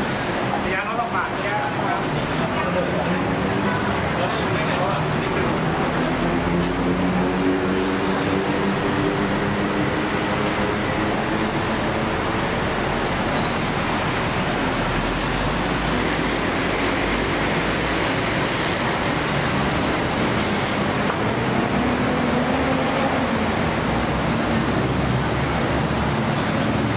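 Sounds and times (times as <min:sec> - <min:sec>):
road traffic: 0:00.0 - 0:26.9.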